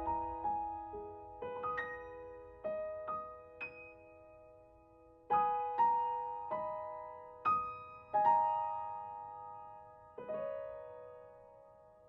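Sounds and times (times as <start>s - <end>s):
slow sparse piano music: 0.0s - 12.0s.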